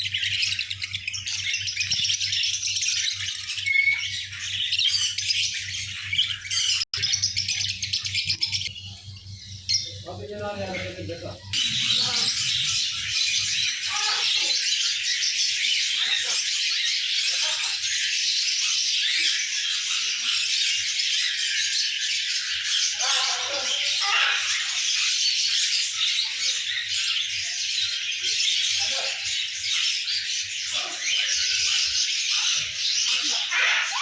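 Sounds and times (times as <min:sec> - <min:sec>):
caged birds chirping: 0:00.0 - 0:34.0.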